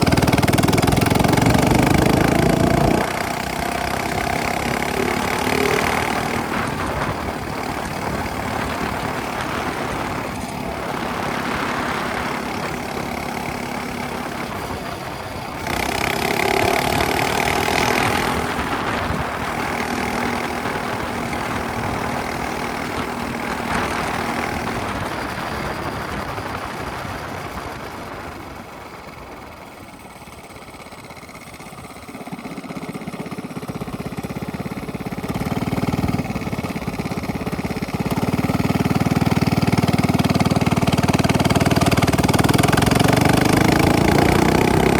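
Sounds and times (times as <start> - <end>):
minibike engine revving: 0.0 - 44.9.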